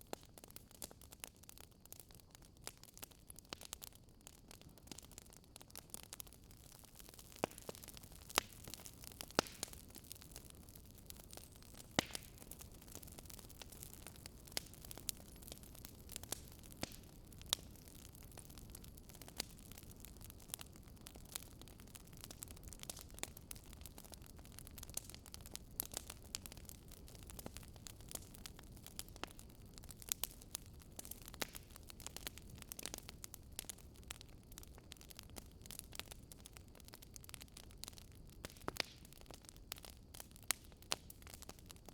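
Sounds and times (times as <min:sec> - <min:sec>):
wood fire crackling: 0:00.0 - 0:41.9
fire pops and snaps: 0:00.1 - 0:41.9.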